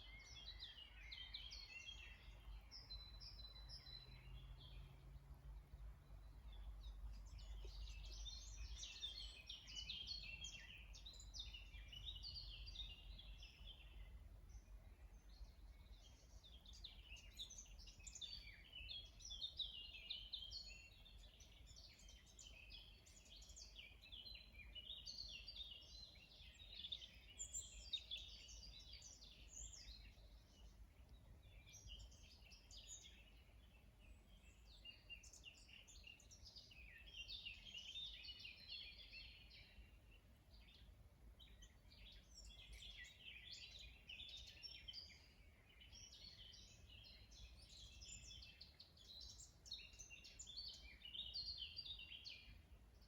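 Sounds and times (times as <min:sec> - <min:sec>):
songbirds chirping in chorus: 0:00.0 - 0:53.0.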